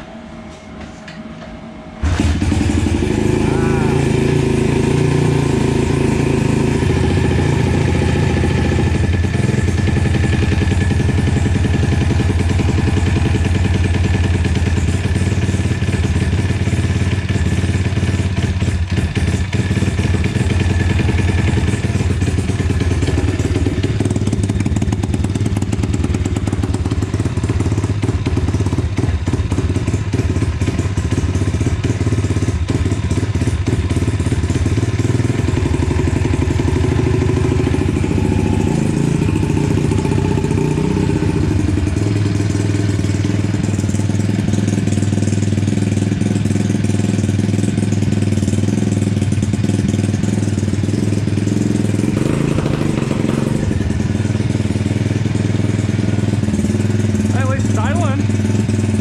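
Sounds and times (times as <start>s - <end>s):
motorbike engine idling: 2.0s - 59.0s.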